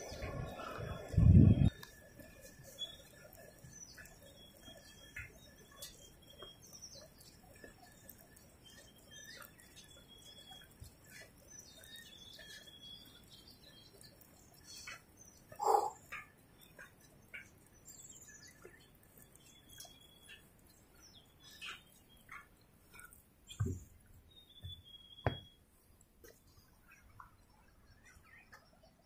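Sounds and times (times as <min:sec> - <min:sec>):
small birds chirping faintly: 0:00.0 - 0:29.0.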